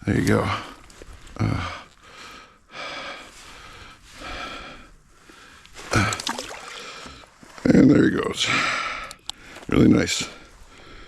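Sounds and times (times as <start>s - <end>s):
man breathing heavily: 0.4s - 7.4s, 8.4s - 11.0s.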